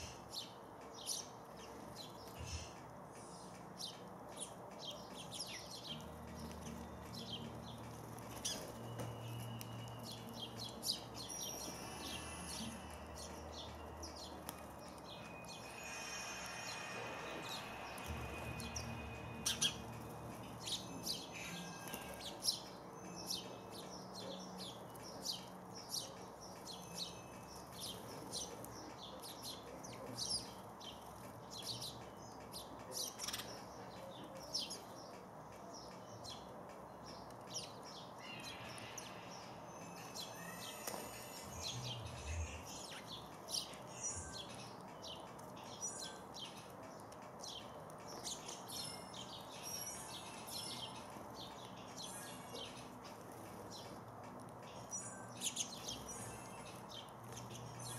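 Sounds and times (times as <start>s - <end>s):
sparrows chirping: 0.0s - 57.9s.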